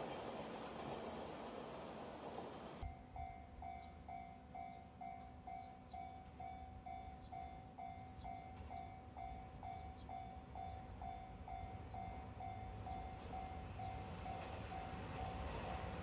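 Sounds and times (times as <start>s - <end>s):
train approaching: 0.0s - 16.0s.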